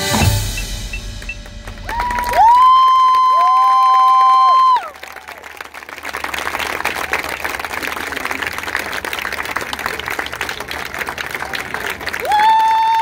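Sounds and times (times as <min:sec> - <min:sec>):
crowd applauding: 0:01.2 - 0:13.0.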